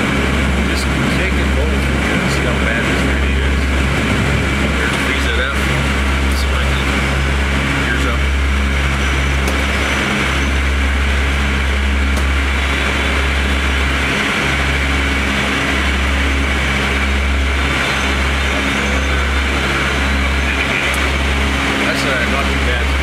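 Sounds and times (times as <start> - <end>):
propeller drone in cockpit: 0.0 - 23.0.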